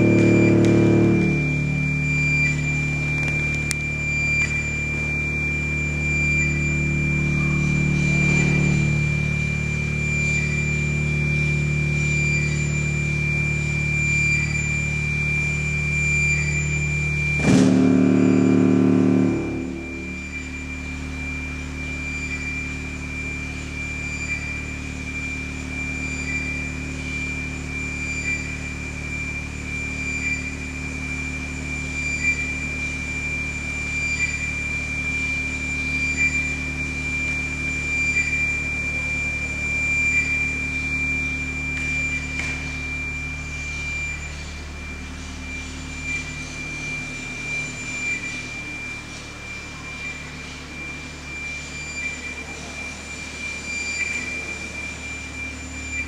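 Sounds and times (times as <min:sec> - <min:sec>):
high sine tone: 0:00.0 - 0:56.0
low layered hum: 0:00.0 - 0:56.0
soft electronic beep: 0:00.0 - 0:56.0.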